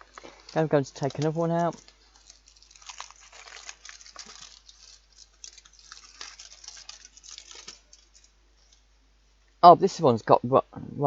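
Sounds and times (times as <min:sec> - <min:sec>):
wrapper crinkling as torn open: 0:00.0 - 0:08.9.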